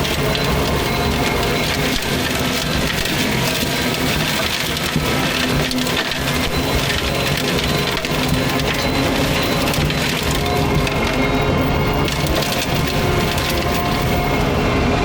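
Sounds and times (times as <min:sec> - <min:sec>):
diesel engine under load: 0:00.0 - 0:15.0
mulcher grinding brush and wood: 0:00.0 - 0:15.0.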